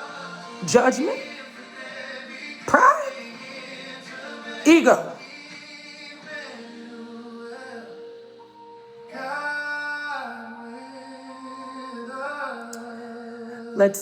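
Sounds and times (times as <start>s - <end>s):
slow music with long held notes: 0.0s - 13.8s.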